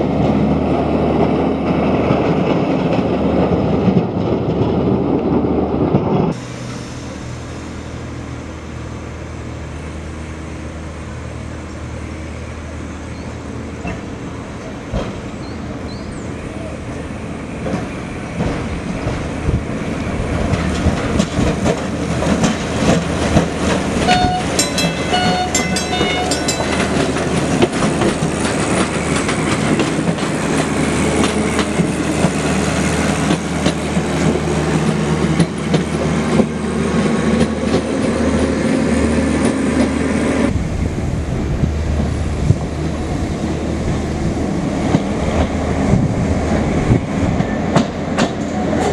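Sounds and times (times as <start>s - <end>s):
tram wheels rumbling on rails: 0.0s - 48.9s.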